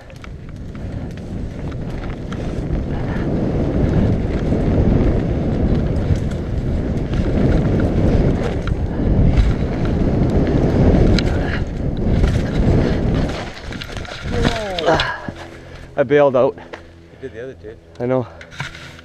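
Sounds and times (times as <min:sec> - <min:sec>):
tyres on packed dirt: 0:00.0 - 0:16.9
bike clicks and rattles: 0:00.0 - 0:17.0, 0:17.8 - 0:19.0
wind rumble on microphone: 0:00.0 - 0:19.0.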